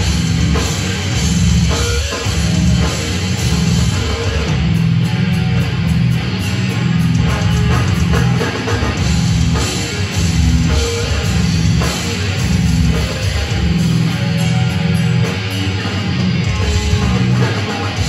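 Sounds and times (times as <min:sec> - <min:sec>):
distorted electric guitars: 0:00.0 - 0:18.0
drum kit: 0:00.0 - 0:18.0.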